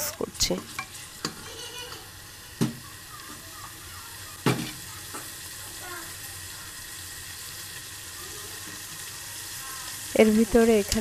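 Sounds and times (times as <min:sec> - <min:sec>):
paste sizzling in a pot: 0:00.0 - 0:11.0.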